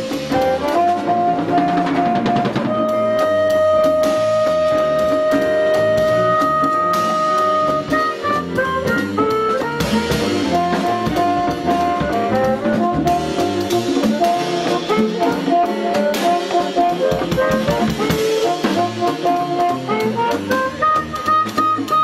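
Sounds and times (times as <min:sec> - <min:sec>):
drum kit: 0:00.0 - 0:22.0.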